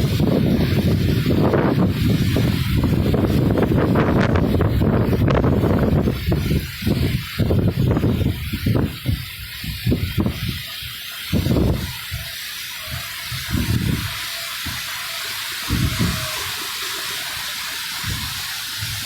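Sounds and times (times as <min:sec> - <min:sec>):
wind gusts buffeting microphone: 0:00.0 - 0:14.9, 0:15.6 - 0:19.0
rain falling: 0:00.0 - 0:19.0.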